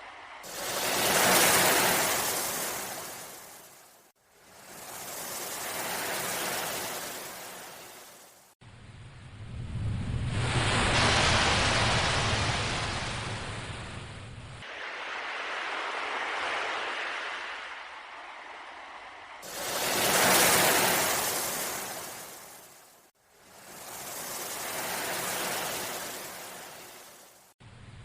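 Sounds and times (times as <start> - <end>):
sea waves washing in: 0.0 - 8.6, 9.4 - 27.6.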